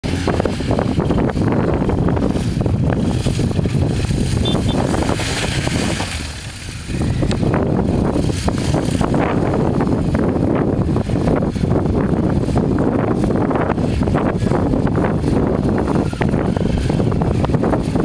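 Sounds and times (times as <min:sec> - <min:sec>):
motorcycle engine climbing: 0:00.0 - 0:18.0
wind buffeting microphone: 0:00.0 - 0:18.0.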